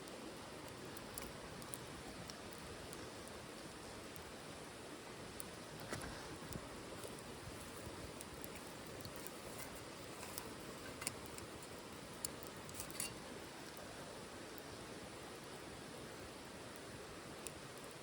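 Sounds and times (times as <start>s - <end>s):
fire crackles and pops: 0.0s - 18.0s
wood fire burning: 0.0s - 18.0s.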